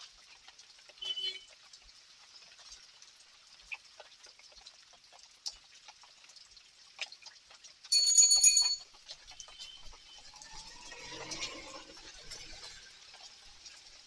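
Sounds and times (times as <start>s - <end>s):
rain dripping and pattering: 0.0s - 14.0s.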